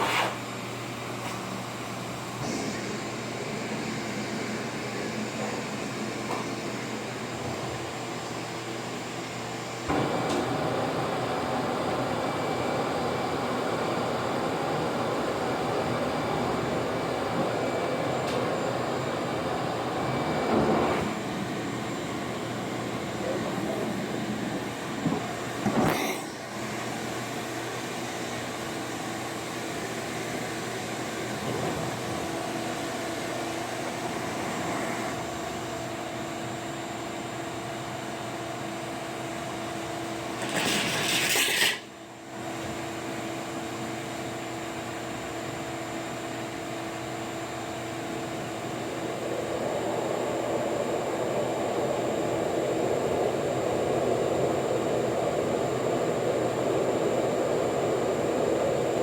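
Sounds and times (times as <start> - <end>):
vacuum cleaner motor whine: 2.3 - 40.9, 42.4 - 59.0.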